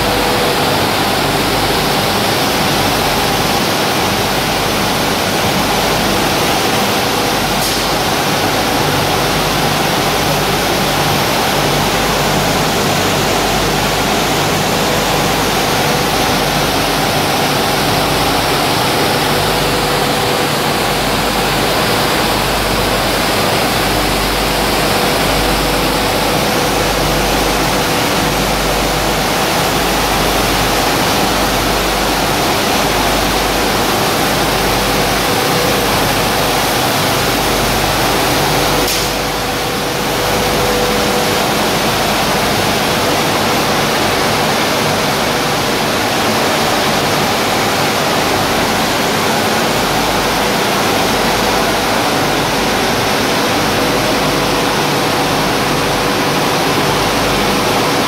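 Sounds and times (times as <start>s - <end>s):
flour mill machinery roaring: 0.0s - 58.0s.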